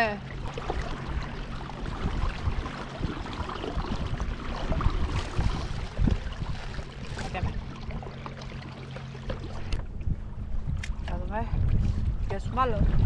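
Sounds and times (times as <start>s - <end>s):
water lapping against a kayak: 0.0s - 13.0s
wind buffeting the microphone: 0.0s - 13.0s.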